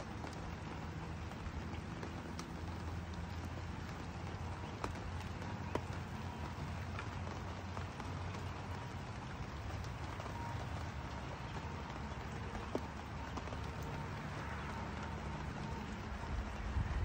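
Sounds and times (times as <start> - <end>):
rain on wooden deck: 0.0 - 17.0
sharp drip ticks: 0.0 - 17.0.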